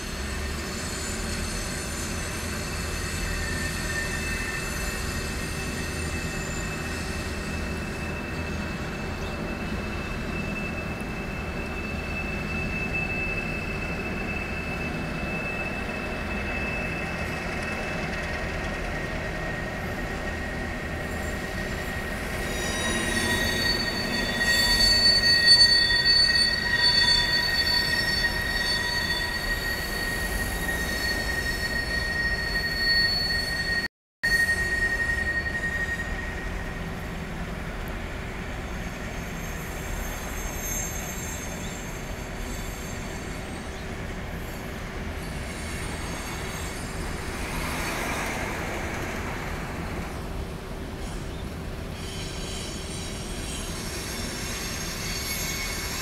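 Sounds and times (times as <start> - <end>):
train rumble: 0.0 - 33.9, 34.5 - 56.0
train wheels squealing: 0.0 - 56.0.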